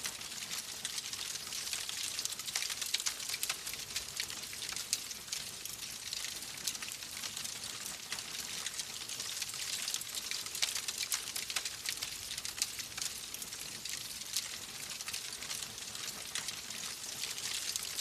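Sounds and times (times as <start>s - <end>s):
wood fire crackling and hissing: 0.0s - 18.0s.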